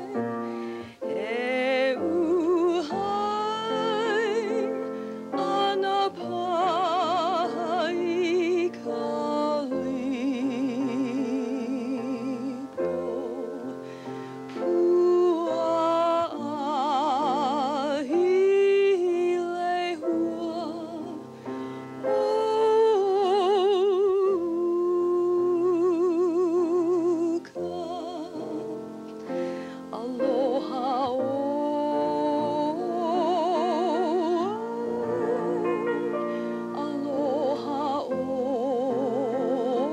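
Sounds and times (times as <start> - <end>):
person singing classical song: 0.0 - 39.9
piano accompaniment: 0.0 - 39.9.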